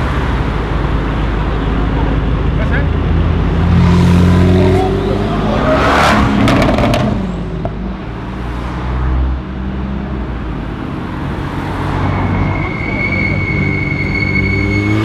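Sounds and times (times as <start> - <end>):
car engine revving: 0.0 - 9.1, 10.3 - 15.0.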